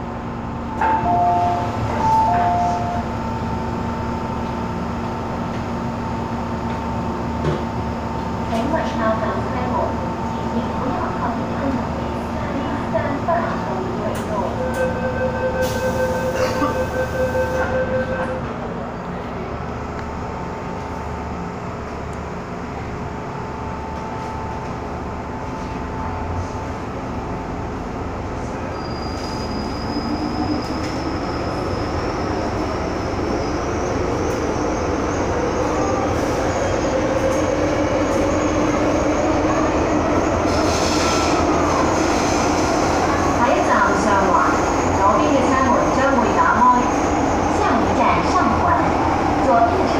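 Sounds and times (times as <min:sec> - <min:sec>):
wheels rumbling on rail: 0:00.0 - 0:49.9.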